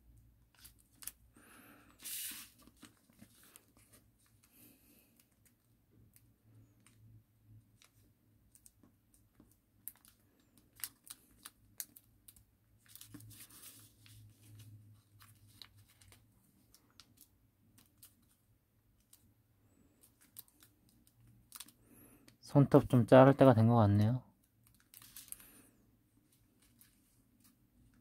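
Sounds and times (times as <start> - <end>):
paper rustling and creasing: 0.4 - 5.7, 7.7 - 21.8, 24.6 - 28.0.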